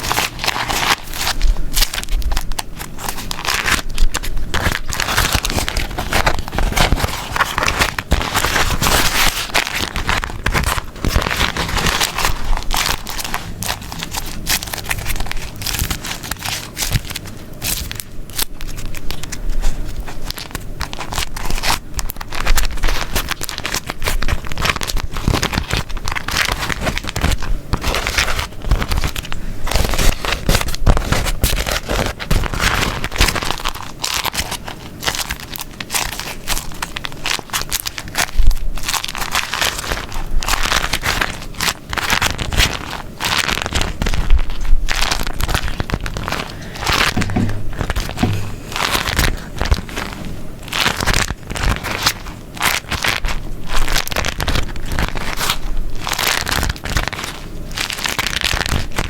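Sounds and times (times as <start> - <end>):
sticky fabric peeling apart: 0.0 - 59.0
wax wrap crinkling: 0.0 - 59.0.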